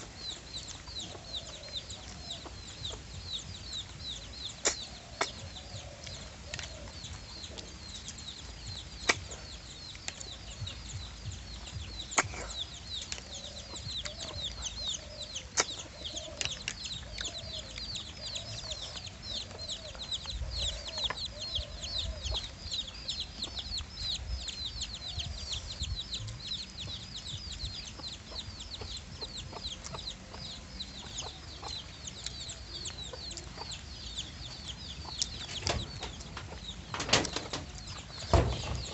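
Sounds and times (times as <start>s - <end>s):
chickens clucking: 0.0s - 38.9s
chicks peeping: 0.0s - 38.9s.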